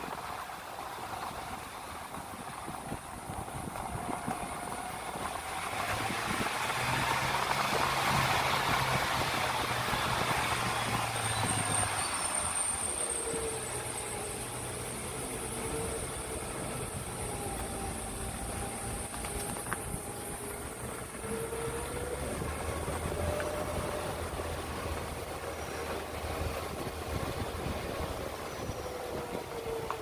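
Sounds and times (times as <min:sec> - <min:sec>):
road noise: 0:00.0 - 0:30.0
vehicle engine hum: 0:00.0 - 0:30.0.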